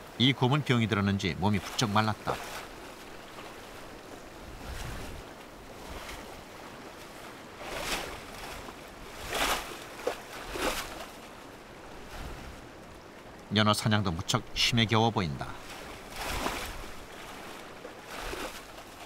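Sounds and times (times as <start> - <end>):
rushing river water: 0.0 - 19.0.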